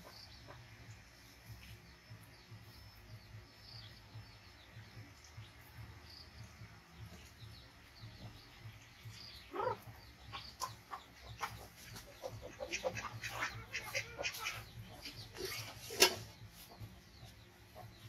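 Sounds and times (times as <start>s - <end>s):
clucking or chirping calls: 0.0s - 18.0s.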